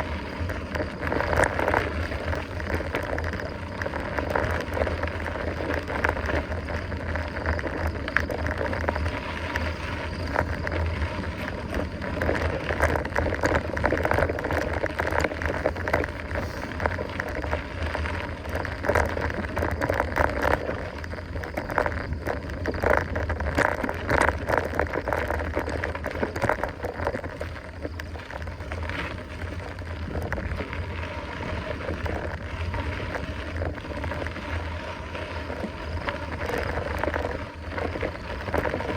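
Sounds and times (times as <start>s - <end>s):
bike tyres on dirt trail: 0.0s - 38.9s
wind rumbling on microphone: 0.0s - 38.9s.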